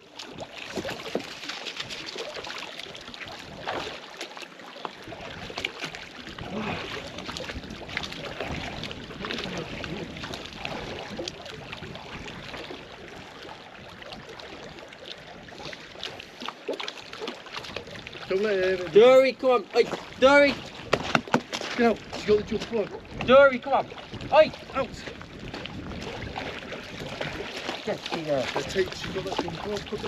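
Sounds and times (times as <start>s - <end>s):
small waves lapping: 0.0s - 30.0s
splashing in shallow water: 0.0s - 30.0s.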